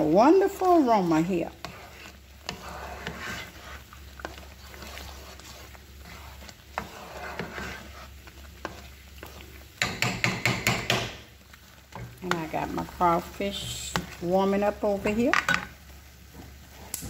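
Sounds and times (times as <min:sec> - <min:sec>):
thick stew bubbling: 0:00.0 - 0:17.0
spoon scraping pot: 0:00.2 - 0:11.1, 0:11.7 - 0:15.7.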